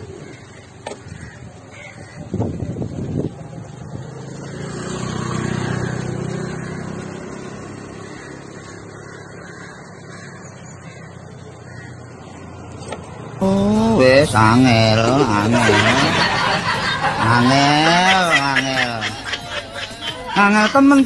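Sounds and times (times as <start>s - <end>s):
motorbike engine passing: 2.6s - 21.0s.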